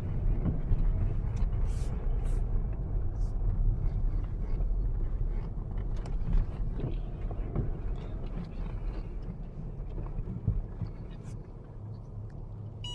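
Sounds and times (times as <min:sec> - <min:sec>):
car engine and road rumble: 0:00.0 - 0:12.9.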